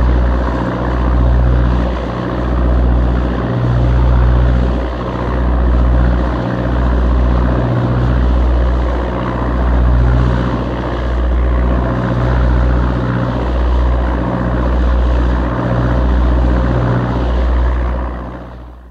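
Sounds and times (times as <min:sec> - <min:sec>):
diesel engines low drone: 0:00.0 - 0:18.9.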